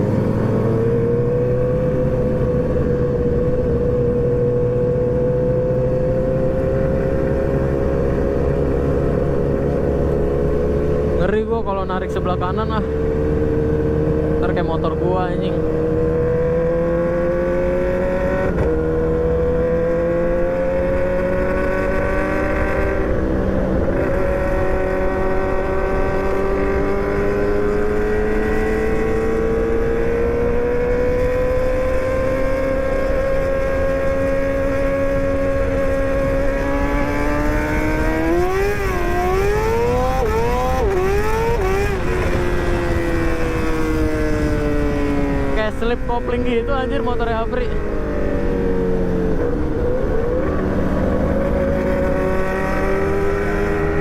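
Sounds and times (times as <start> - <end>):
low wind rush: 0.0 - 54.0
motorcycle engine running: 0.0 - 54.0.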